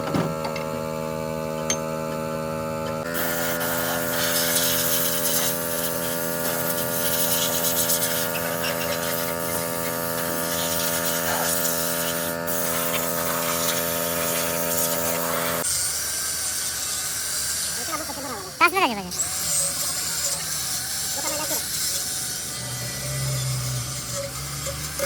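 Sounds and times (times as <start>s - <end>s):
motor humming with harsh rasp: 0.0s - 25.0s.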